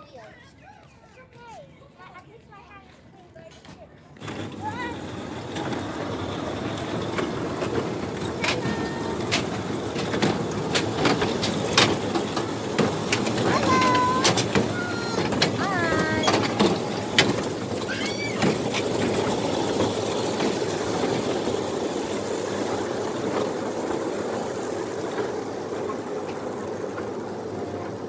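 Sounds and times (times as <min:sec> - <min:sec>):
ride cars rumbling on rail track: 0:04.2 - 0:28.0.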